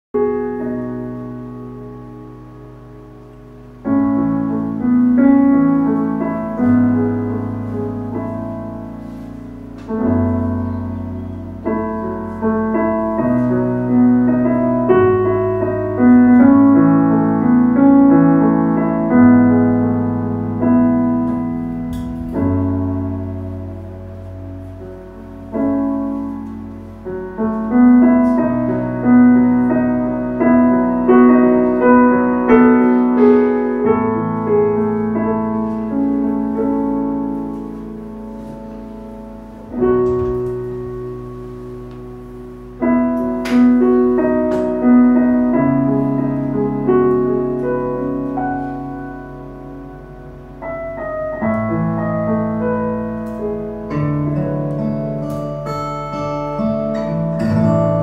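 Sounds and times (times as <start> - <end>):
slow gentle piano music: 0.1 - 58.0.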